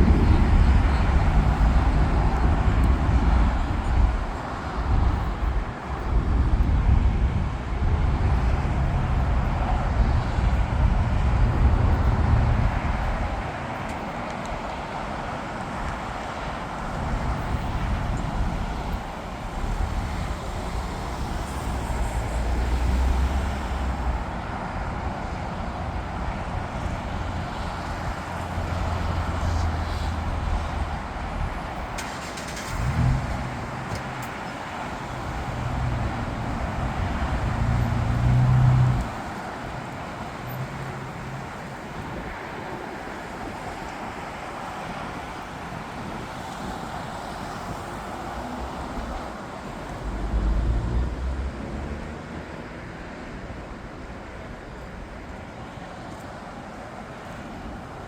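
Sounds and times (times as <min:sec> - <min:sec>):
airport and road traffic roar: 0:00.0 - 0:58.0.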